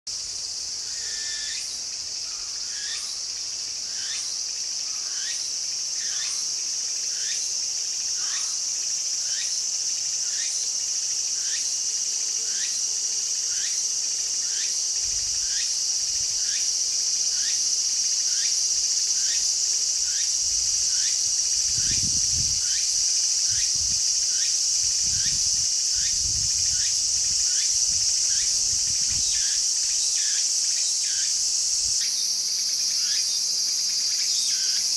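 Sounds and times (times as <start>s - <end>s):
cicada buzzing: 0.2s - 34.9s.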